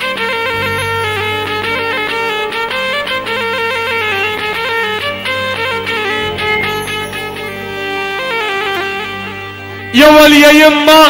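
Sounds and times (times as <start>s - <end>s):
band playing fast instrumental melody: 0.0s - 10.2s.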